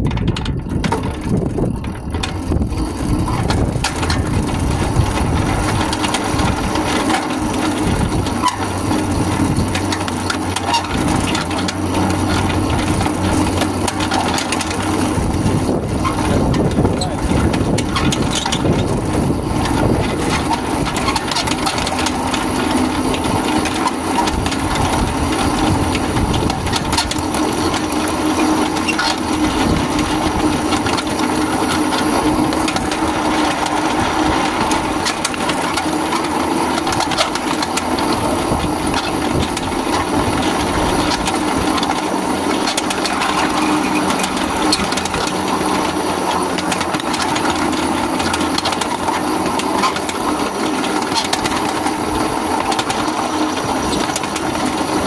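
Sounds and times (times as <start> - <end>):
small engine humming: 0.0 - 55.0
train wheels rumbling on track: 0.0 - 55.0
wheels clicking at rail joints: 0.0 - 55.0.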